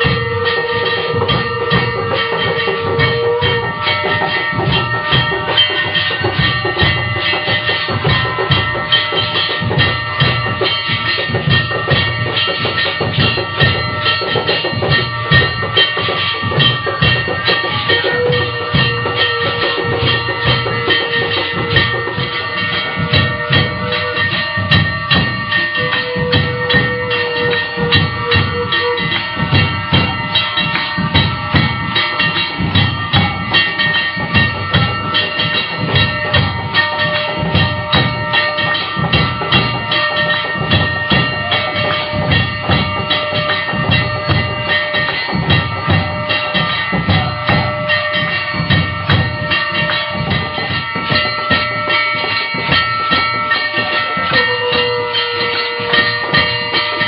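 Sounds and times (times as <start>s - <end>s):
fast steady drumbeat: 0.0s - 57.0s.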